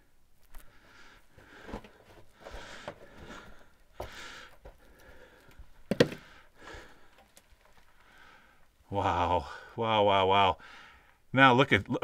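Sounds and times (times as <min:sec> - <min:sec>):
man breathing: 0:00.6 - 0:09.8, 0:10.6 - 0:11.3.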